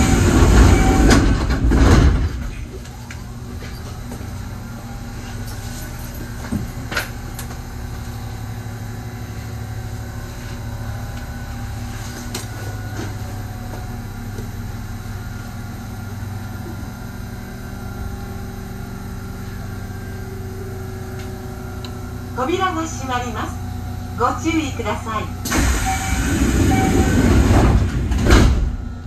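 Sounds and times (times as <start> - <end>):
electric train equipment hum: 0.0 - 29.0.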